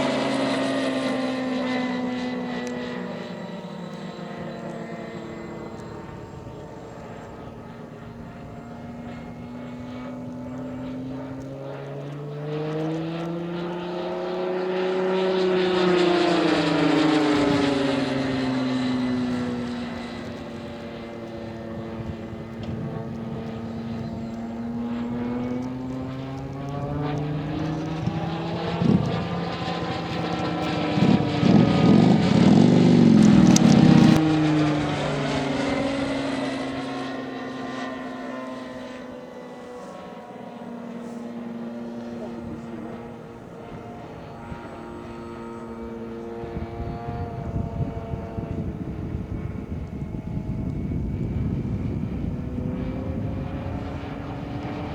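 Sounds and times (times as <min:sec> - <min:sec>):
model airplane engine flying past: 0:00.0 - 0:54.9.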